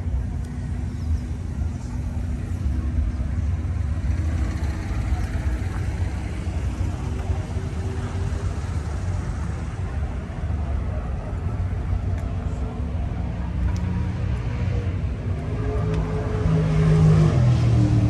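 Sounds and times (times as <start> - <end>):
crowd chatter: 0.0 - 18.0.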